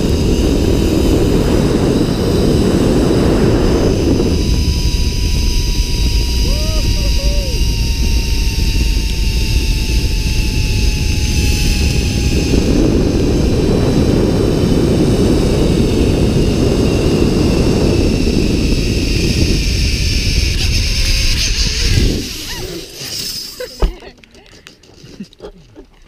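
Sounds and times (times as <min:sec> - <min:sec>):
wind buffeting microphone: 0:00.0 - 0:23.0
thin high whine: 0:00.0 - 0:24.0.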